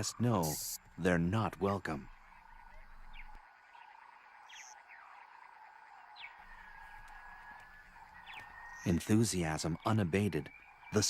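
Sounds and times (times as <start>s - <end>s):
faint animal chorus drone: 0.0s - 11.0s.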